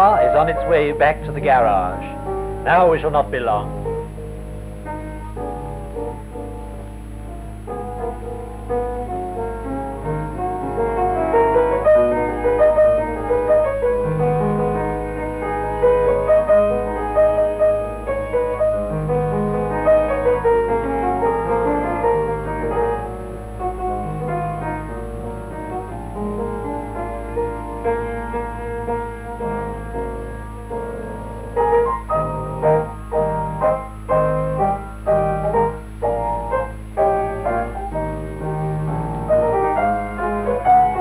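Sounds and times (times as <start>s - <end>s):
piano music: 0.0s - 41.0s
steady low hum: 0.0s - 41.0s.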